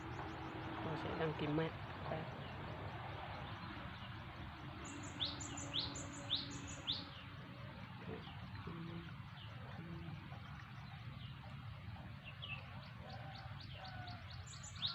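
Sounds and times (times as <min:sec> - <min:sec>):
bird chirping: 0:00.0 - 0:14.9
steady background noise: 0:00.0 - 0:14.9.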